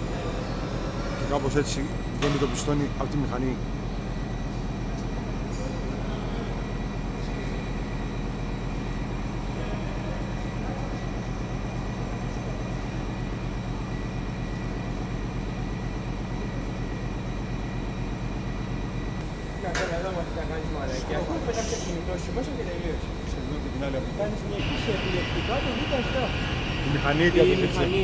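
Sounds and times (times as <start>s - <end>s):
power plant machinery drone: 0.0s - 28.0s.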